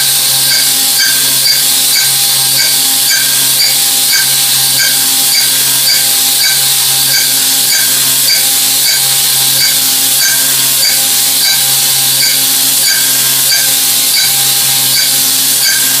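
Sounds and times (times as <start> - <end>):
milling machine cutting steel: 0.0 - 16.0.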